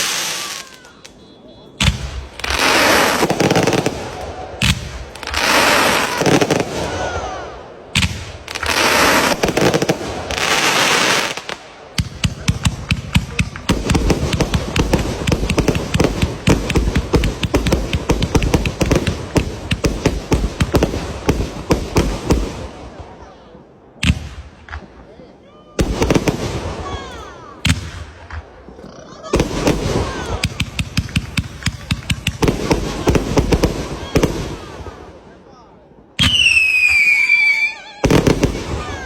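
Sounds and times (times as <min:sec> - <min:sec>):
fireworks hissing and crackling: 0:00.0 - 0:01.1, 0:01.8 - 0:07.1, 0:08.0 - 0:23.1, 0:25.8 - 0:35.2, 0:36.2 - 0:39.0
fireworks cracks and bangs: 0:00.0 - 0:01.2, 0:01.8 - 0:23.2, 0:25.8 - 0:35.2, 0:36.2 - 0:39.0.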